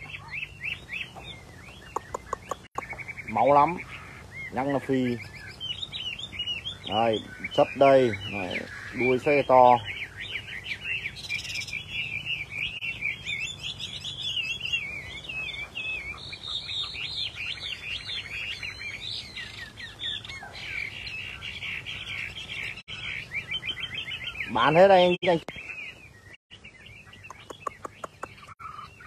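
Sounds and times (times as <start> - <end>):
bird singing whistled notes: 0.0 - 29.0.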